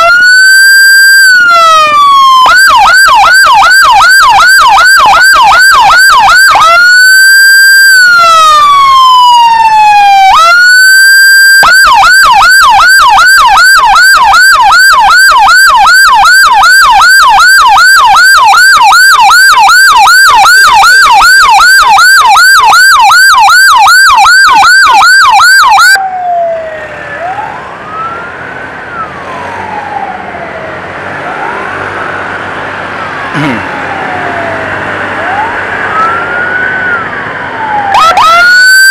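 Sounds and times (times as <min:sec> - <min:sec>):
electronic siren yelping: 0:00.0 - 0:28.3, 0:33.4 - 0:38.9
faint wailing siren: 0:00.0 - 0:38.9
traffic: 0:00.0 - 0:38.9.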